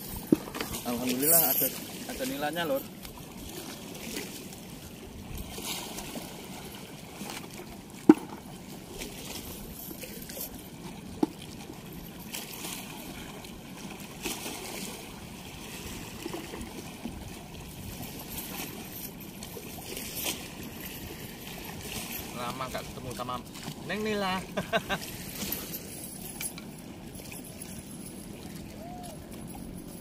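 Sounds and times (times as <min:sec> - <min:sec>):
water running at a weir: 0:00.0 - 0:30.0.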